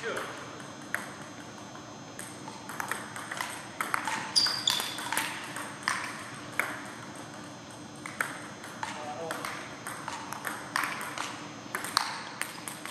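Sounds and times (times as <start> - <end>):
table tennis ball hits: 0.2 - 7.4, 8.0 - 12.9.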